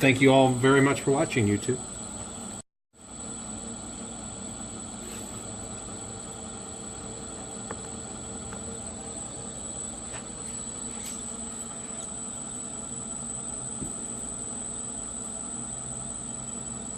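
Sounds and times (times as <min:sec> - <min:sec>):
high-pitched electrical whine: 0:00.0 - 0:16.9.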